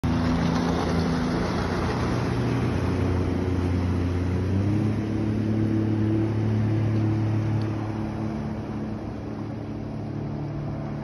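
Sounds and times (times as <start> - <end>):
boat engine passing: 0.0 - 11.0
wind: 0.0 - 11.0.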